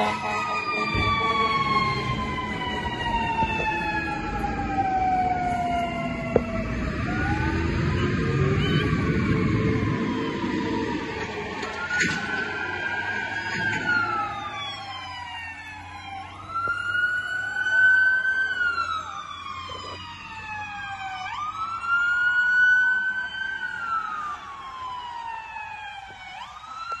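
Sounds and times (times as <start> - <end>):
fire truck siren wailing: 0.0 - 27.0.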